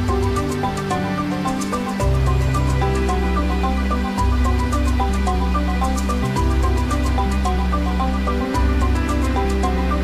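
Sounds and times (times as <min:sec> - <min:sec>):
sustained bass line: 0:00.0 - 0:10.0.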